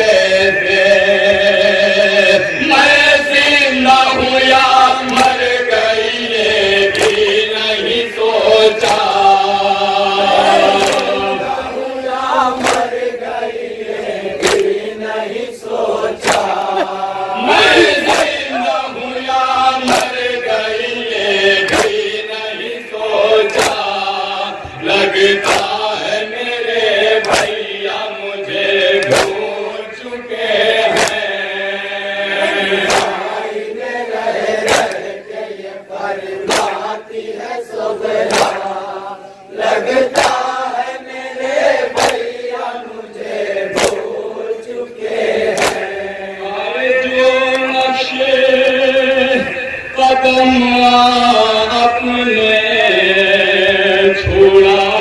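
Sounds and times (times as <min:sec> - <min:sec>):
man singing into a microphone: 0:00.0 - 0:13.5, 0:14.6 - 0:35.3, 0:36.4 - 0:55.0
rhythmic chest-beating slaps: 0:00.0 - 0:52.3
group of men chanting: 0:00.0 - 0:55.0.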